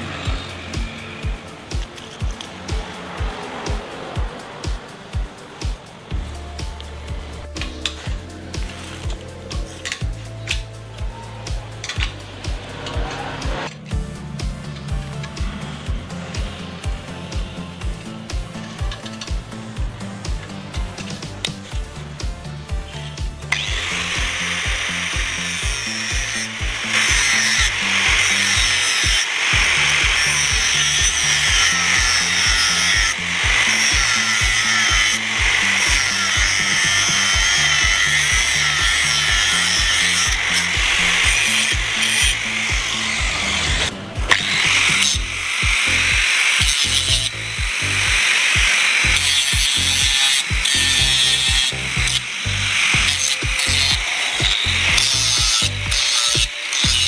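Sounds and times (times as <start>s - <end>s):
power tool grinding: 0.0s - 10.9s, 11.5s - 57.0s
background music with bass beat: 0.0s - 57.0s.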